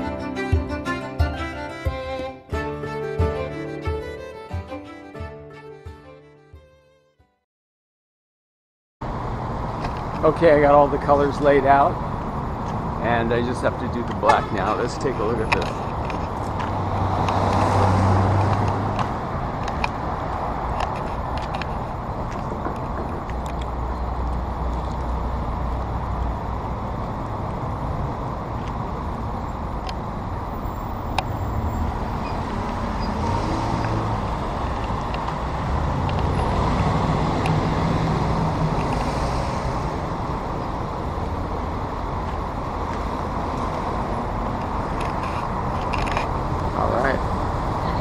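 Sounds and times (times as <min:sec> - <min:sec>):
passing traffic rumble: 0:09.0 - 0:48.0.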